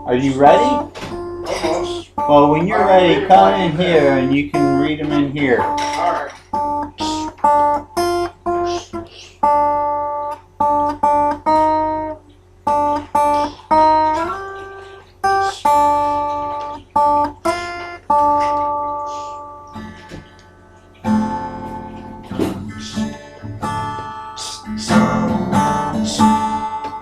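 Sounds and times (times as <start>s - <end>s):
guitar chords ringing: 0.0s - 27.0s.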